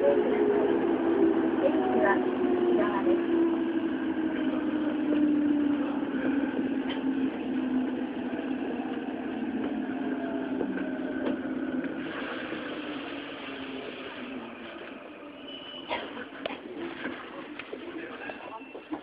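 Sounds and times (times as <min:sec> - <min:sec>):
subway train inverter whine: 0:00.0 - 0:19.0
train wheel and running noise: 0:00.0 - 0:19.0.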